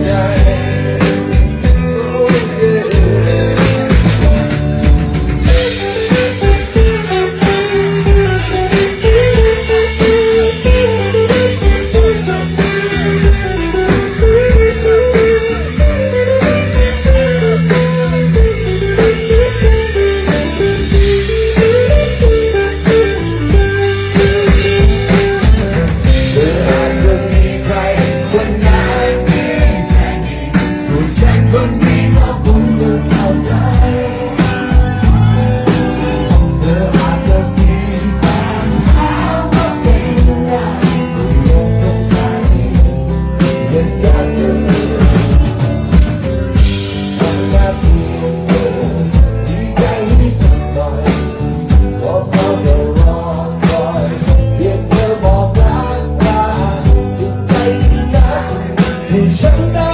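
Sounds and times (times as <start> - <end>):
person singing: 0.0 - 4.6, 5.4 - 45.7, 46.8 - 59.9
live rock band: 0.0 - 59.9
drum beat: 0.1 - 59.9.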